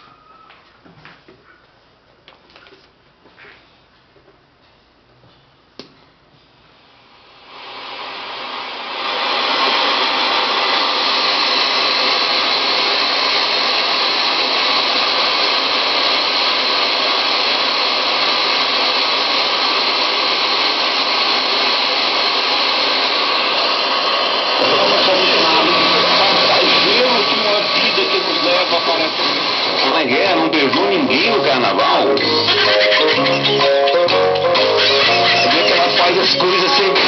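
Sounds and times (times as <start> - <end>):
loud rushing hiss: 7.2 - 37.0.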